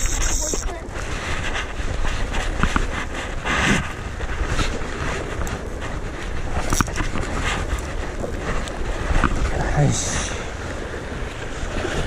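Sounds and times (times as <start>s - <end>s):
sea wash: 0.0s - 12.0s
wind buffeting microphone: 0.0s - 12.0s.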